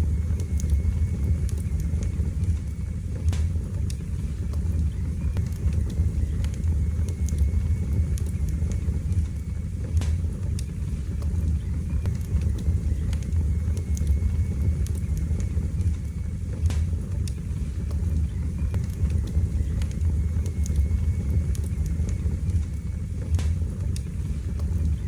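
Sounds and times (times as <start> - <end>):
fire crackling and popping: 0.0 - 25.0
fire flames rumbling: 0.0 - 25.0.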